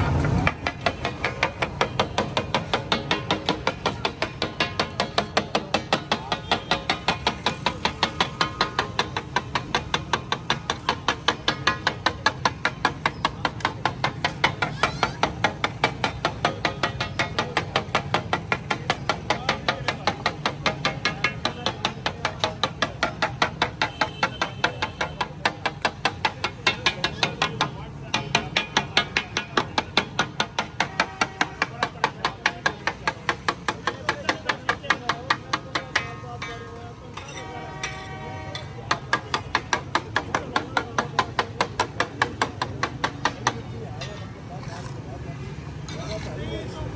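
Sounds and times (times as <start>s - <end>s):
metal spatula striking iron griddle: 0.5s - 44.2s.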